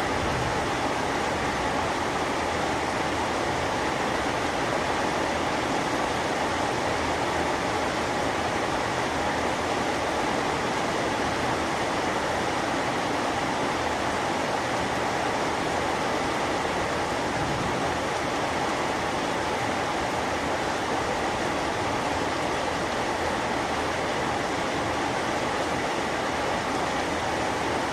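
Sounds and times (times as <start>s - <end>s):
heavy rain: 0.0s - 27.9s.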